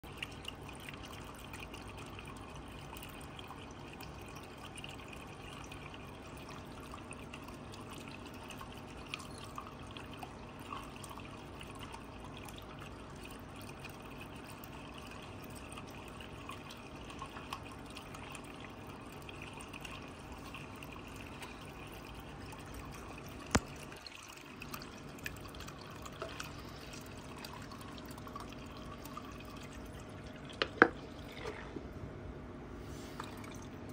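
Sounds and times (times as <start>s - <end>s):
water pump burbling and trickling: 0.0s - 32.0s, 32.9s - 33.9s
faint motor hum: 0.0s - 33.9s.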